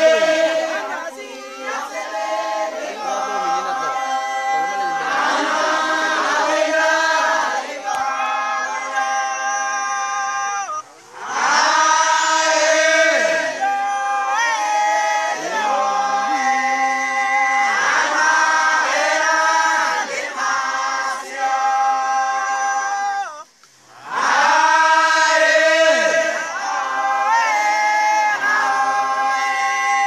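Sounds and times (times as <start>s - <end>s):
group singing unaccompanied: 0.0s - 30.0s.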